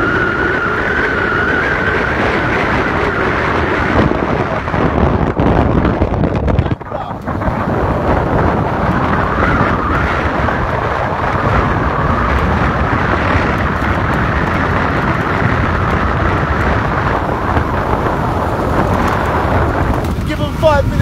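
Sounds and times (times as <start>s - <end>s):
motorcycle engine cruising: 0.0s - 21.0s
wind rush over microphone: 0.0s - 21.0s.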